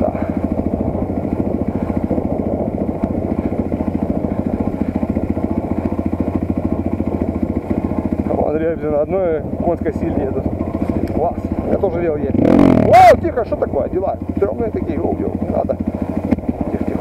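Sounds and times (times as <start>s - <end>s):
motorcycle engine chugging: 0.0s - 17.0s.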